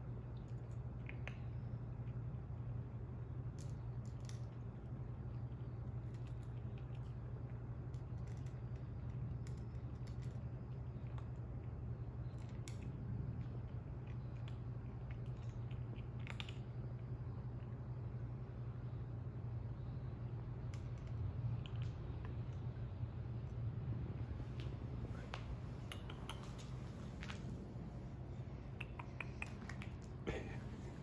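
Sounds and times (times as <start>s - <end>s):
kitten crunching dry food: 0.0s - 31.0s
steady low hum: 0.0s - 31.0s.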